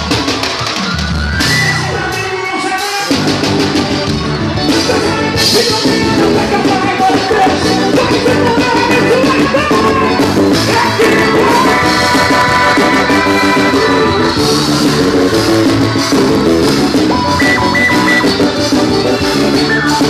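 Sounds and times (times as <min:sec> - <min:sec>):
drum kit beat: 0:00.0 - 0:20.0
electronic keyboards: 0:03.1 - 0:20.0
accordion: 0:03.2 - 0:20.0.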